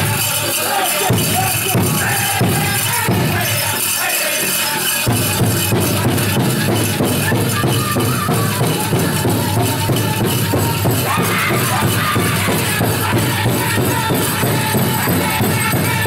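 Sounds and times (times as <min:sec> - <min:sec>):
bells jingling: 0:00.0 - 0:16.0
big drum fast beat: 0:00.0 - 0:16.0
drum group singing: 0:00.0 - 0:16.0.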